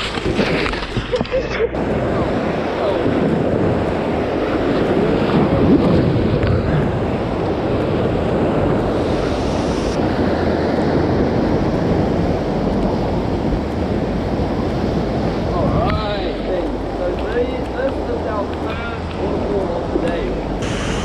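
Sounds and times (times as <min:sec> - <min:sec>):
whitewater rapids roaring: 0:01.7 - 0:21.0.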